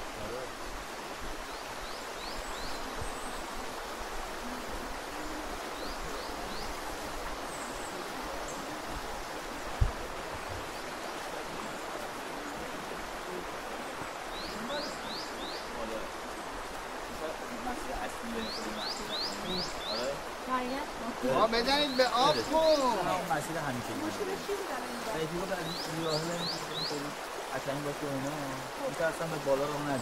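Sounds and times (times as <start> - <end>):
rushing stream water: 0.0 - 30.0.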